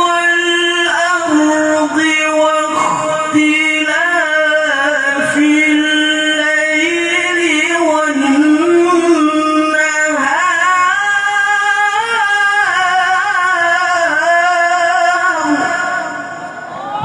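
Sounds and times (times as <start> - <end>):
man reciting melodically: 0.0 - 16.7.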